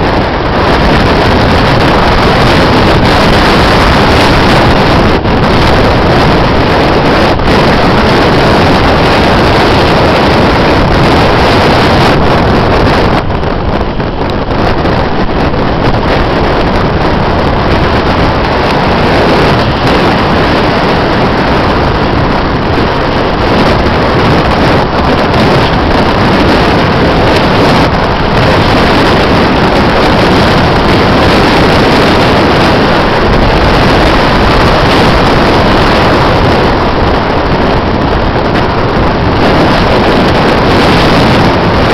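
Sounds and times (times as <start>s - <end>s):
storm wind buffeting microphone: 0.0s - 41.9s.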